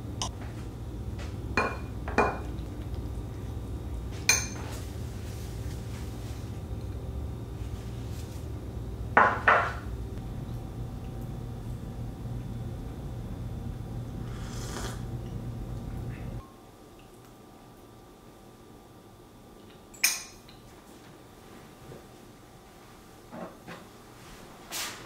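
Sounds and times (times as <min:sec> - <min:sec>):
steady low hum: 0:00.0 - 0:23.3.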